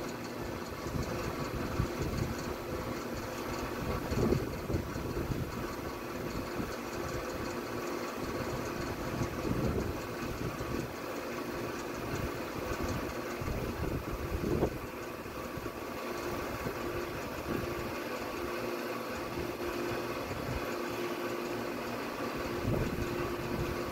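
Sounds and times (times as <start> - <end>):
low mechanical motor drone: 0.0 - 23.9.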